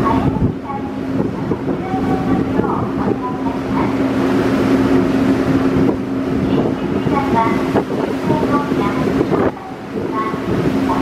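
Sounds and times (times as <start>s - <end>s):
ferry engines humming: 0.0s - 11.0s
rushing wake water: 0.0s - 11.0s
wind: 0.0s - 11.0s.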